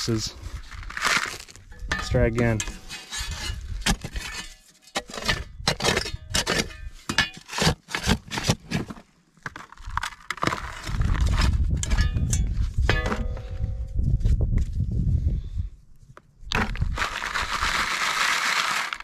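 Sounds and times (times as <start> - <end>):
shovel digging gravelly dirt: 0.0 - 14.3, 16.5 - 19.0.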